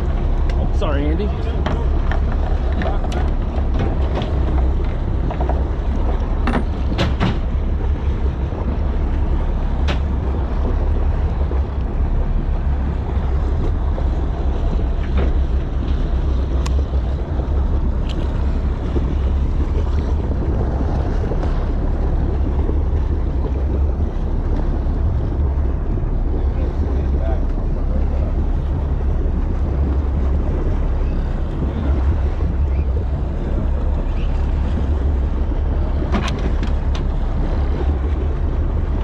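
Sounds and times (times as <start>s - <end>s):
open-water noise: 0.0s - 39.0s
wind buffeting microphone: 0.0s - 39.0s.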